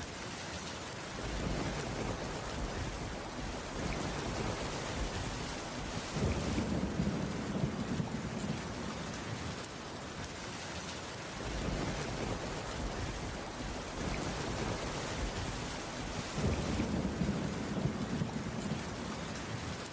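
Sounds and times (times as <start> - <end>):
rain on a wooden roof: 0.0 - 19.9.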